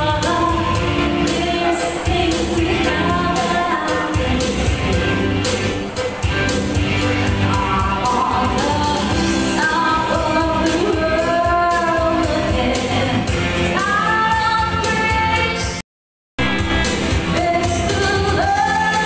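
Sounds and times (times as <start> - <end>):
woman singing into microphone: 0.0 - 5.8, 7.5 - 15.8, 16.9 - 19.0.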